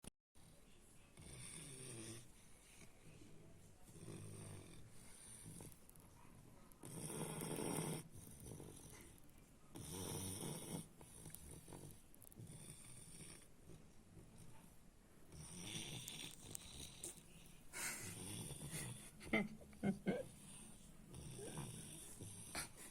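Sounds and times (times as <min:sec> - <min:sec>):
puppy snoring: 0:01.1 - 0:03.0, 0:03.8 - 0:05.9, 0:06.8 - 0:14.6, 0:15.2 - 0:22.9.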